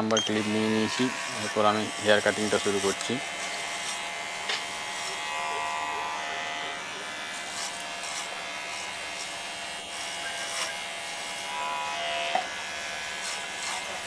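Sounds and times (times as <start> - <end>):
electric hair clipper running: 0.0 - 14.0.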